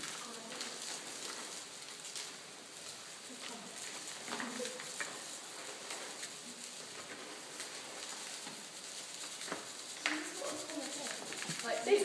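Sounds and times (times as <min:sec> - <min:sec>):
dry ice hissing: 0:00.0 - 0:12.0
faint crackles: 0:00.0 - 0:12.0.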